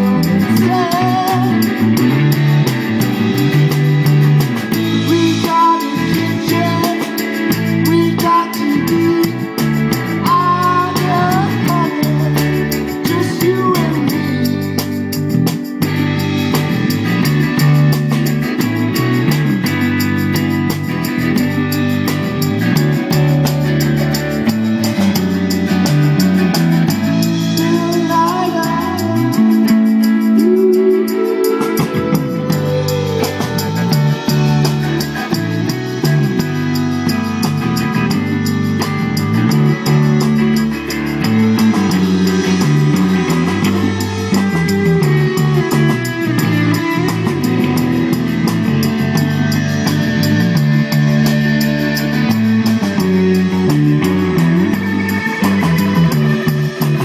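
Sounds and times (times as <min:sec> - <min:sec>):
guitar sliding upward: 0:00.0 - 0:57.0
rock band playing: 0:00.0 - 0:57.0.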